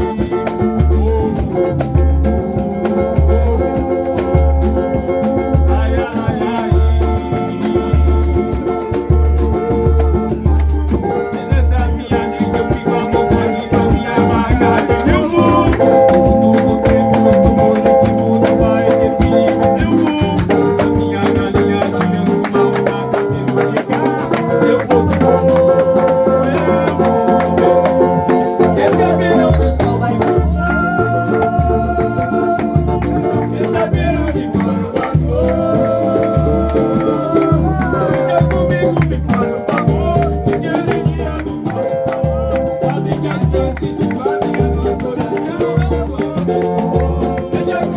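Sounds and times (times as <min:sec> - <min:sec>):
drum beat: 0:00.0 - 0:47.9
held melodic notes: 0:00.0 - 0:47.9
samba music: 0:00.0 - 0:47.9.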